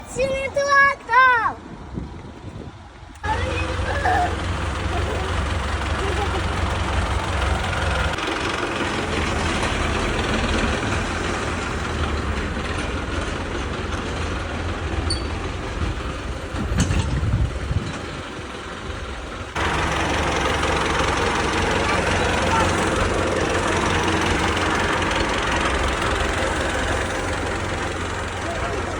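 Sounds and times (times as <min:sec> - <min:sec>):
tractor engine running: 0:03.0 - 0:28.9.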